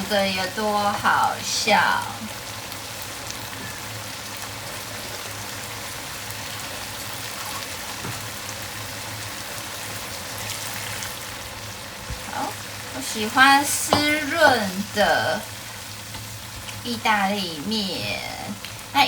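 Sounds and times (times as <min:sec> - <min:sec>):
sauce bubbling and sizzling in a pan: 0:00.0 - 0:19.0.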